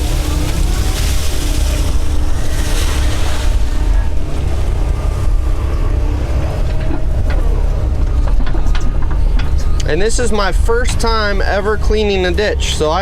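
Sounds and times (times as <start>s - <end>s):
excavator diesel engine droning: 0.0s - 13.0s
rushing noise: 0.0s - 13.0s.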